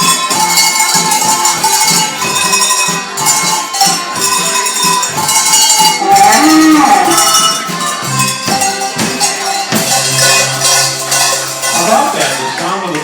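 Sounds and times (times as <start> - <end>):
cowbells playing a tune: 0.0 - 13.0.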